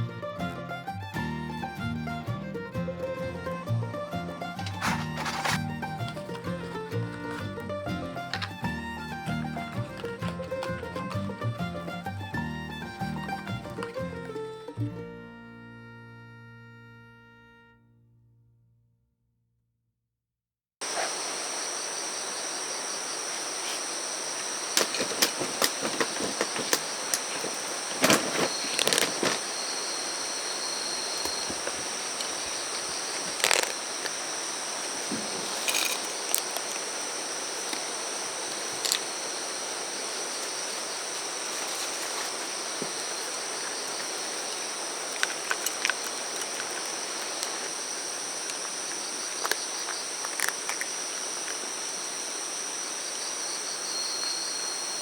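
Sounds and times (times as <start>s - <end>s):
insects trilling: 0.0s - 14.8s, 20.8s - 55.0s.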